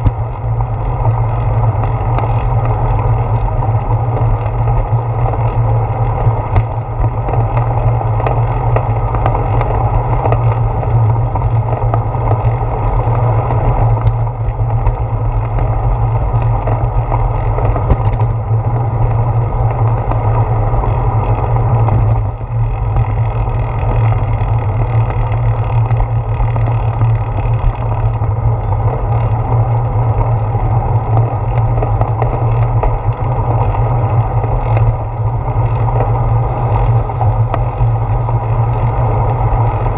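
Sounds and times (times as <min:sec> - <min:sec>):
bicycle road vibration: 0:00.0 - 0:39.9
wind rumble: 0:00.0 - 0:39.9.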